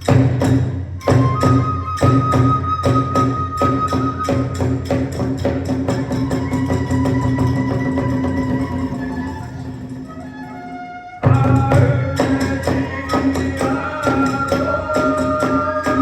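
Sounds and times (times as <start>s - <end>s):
hand cymbal beats: 0.0s - 10.5s, 11.2s - 16.0s
drum beats: 0.0s - 16.0s.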